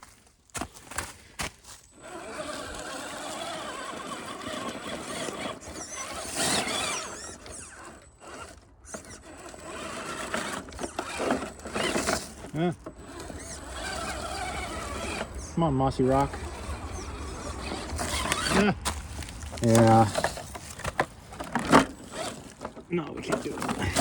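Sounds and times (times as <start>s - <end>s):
rc car electric motor whining: 1.9s - 24.0s.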